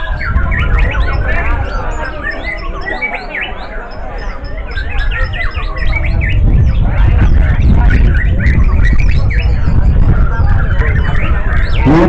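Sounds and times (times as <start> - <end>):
birds singing whistled phrases: 0.0 - 12.0.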